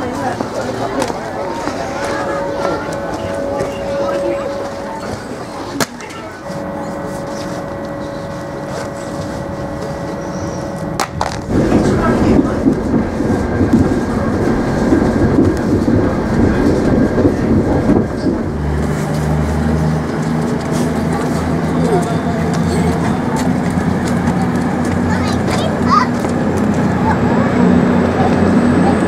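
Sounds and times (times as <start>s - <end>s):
train hum: 0.0s - 29.0s
train rolling rumble: 0.0s - 29.0s.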